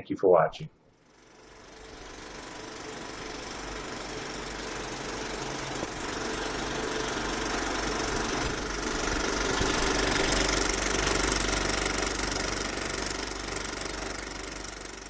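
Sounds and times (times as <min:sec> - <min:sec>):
stepper motors buzzing: 0:01.3 - 0:14.9.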